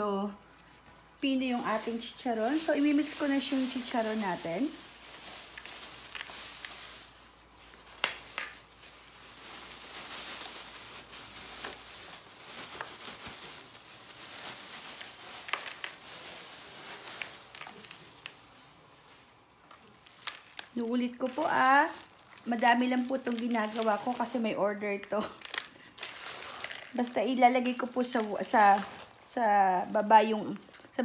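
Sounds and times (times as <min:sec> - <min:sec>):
plastic bag rustling: 0:00.5 - 0:31.0
crisp pieces pattering into bowl: 0:01.5 - 0:29.3.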